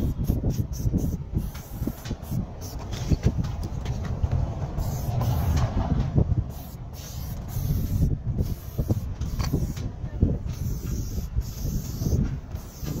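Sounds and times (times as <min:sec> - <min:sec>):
spray can hissing: 0:00.0 - 0:03.3, 0:04.8 - 0:05.6, 0:06.5 - 0:13.0
low rumble: 0:00.0 - 0:12.7.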